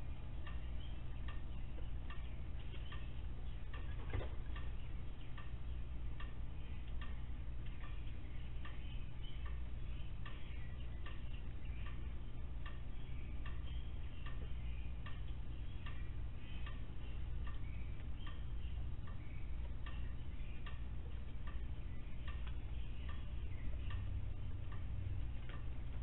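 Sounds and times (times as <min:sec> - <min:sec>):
steady low hum: 0:00.0 - 0:26.0
faint ticks: 0:00.1 - 0:26.0.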